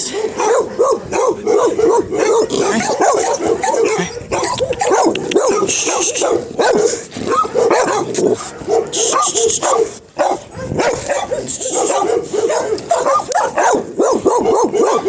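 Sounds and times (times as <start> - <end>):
dogs barking and yipping: 0.0 - 15.0.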